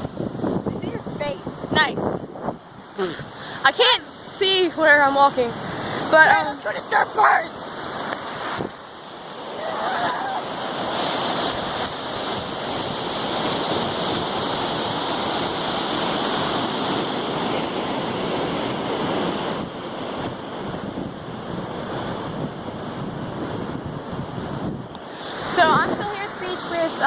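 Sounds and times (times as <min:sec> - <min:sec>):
ocean surf on beach: 0:00.0 - 0:27.0
wind buffeting microphone: 0:00.0 - 0:27.0.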